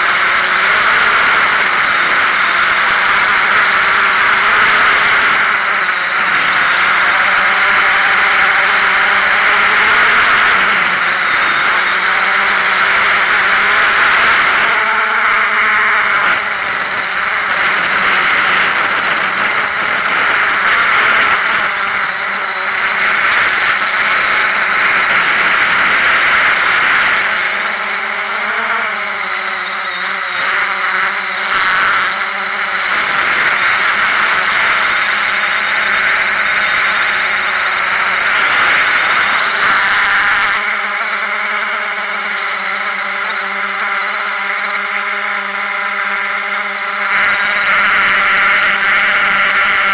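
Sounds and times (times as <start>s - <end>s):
drone propellers whirring: 0.0s - 49.9s.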